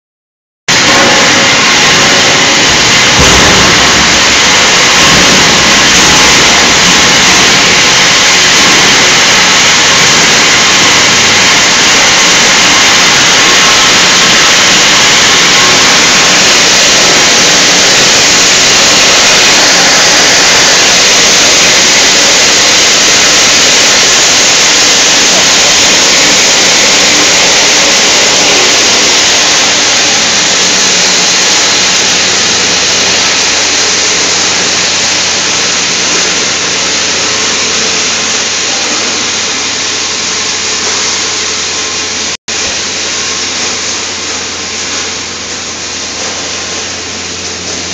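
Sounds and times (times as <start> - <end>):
crusher machine running: 0.7 - 47.9.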